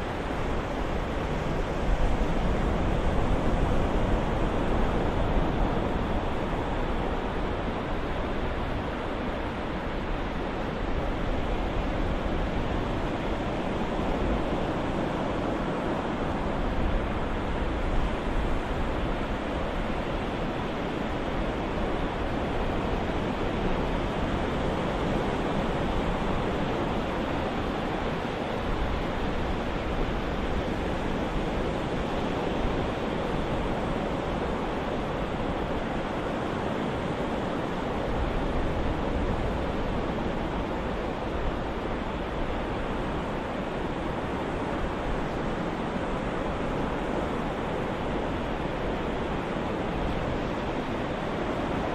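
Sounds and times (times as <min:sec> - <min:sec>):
ocean waves washing: 0:00.0 - 0:51.9.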